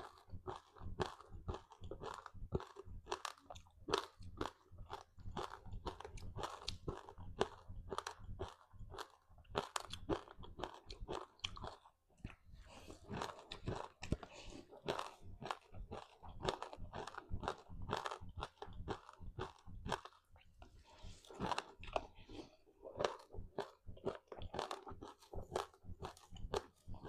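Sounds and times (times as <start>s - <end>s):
crunching and chewing snack: 0.0s - 27.0s.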